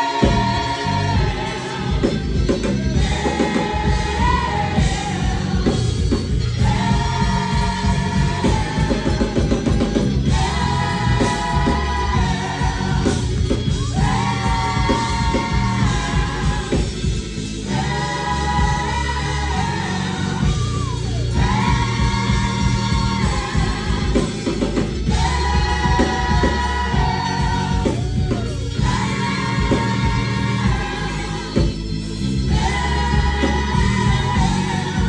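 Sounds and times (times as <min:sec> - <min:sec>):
bass: 0:00.0 - 0:35.0
drums: 0:00.0 - 0:35.0
gospel choir singing: 0:00.0 - 0:35.0.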